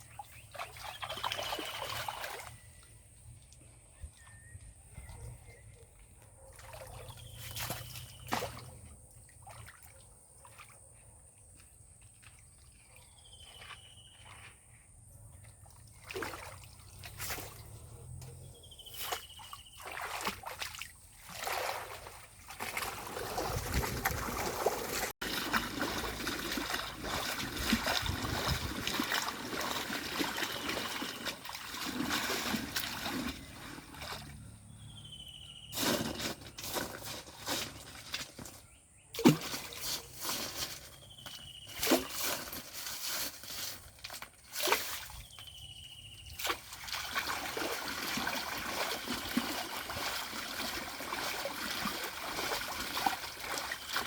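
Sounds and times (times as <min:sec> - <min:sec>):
water sloshing and trickling: 0:00.0 - 0:54.0.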